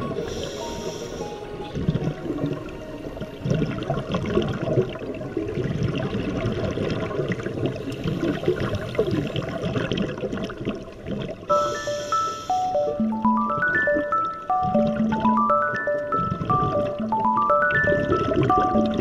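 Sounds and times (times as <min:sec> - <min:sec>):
underwater bubbles gurgling: 0:00.0 - 0:19.0.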